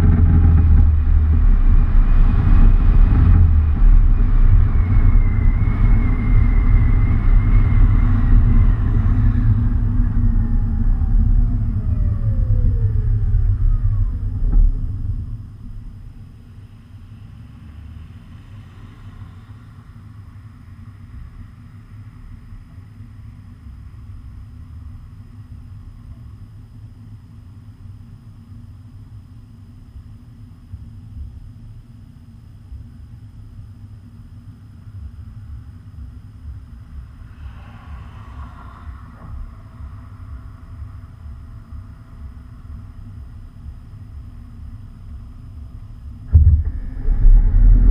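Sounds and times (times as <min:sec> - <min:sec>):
motor vehicle rumble: 0:00.0 - 0:26.5, 0:34.7 - 0:47.9.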